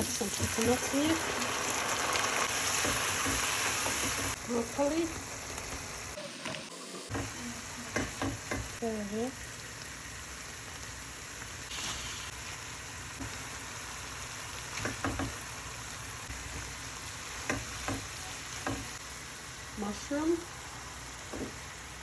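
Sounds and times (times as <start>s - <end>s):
vegetables sizzling in a frying pan: 0.0s - 22.0s.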